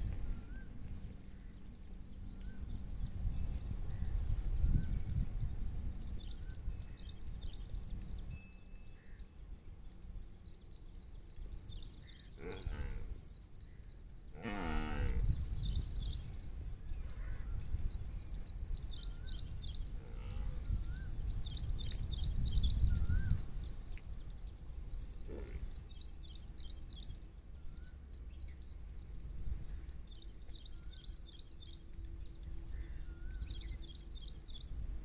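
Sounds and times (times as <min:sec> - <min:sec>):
small birds chirping: 0:00.0 - 0:35.0
wind rumble on microphone: 0:00.0 - 0:35.0.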